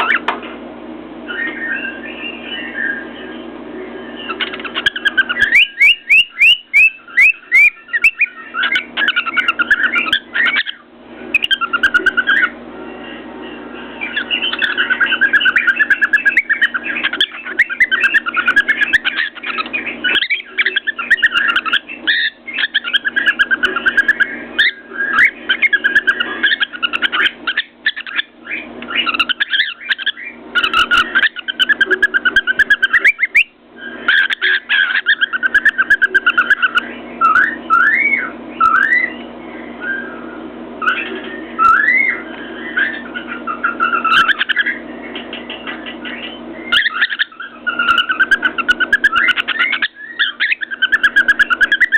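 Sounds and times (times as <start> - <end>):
cockatiel whistling: 1.2 - 12.6, 14.0 - 51.9.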